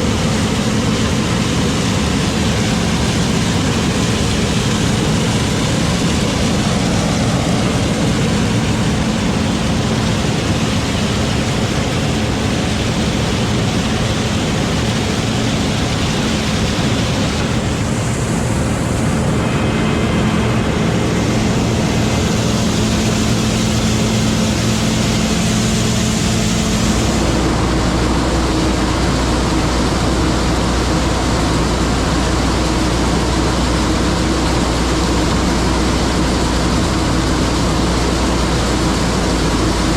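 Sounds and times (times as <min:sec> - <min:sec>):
deep rumble: 0:00.0 - 0:39.9
farm machinery engine drone: 0:00.0 - 0:39.9.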